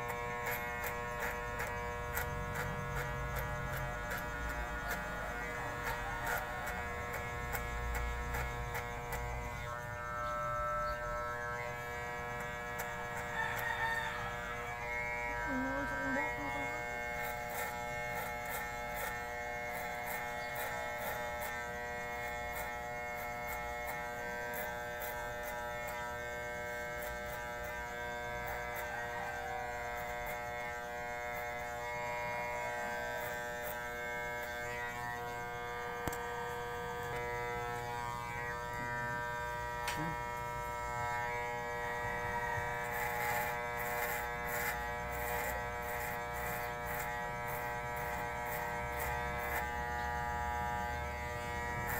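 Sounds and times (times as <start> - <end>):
electric hair clippers buzzing: 0.0 - 51.9.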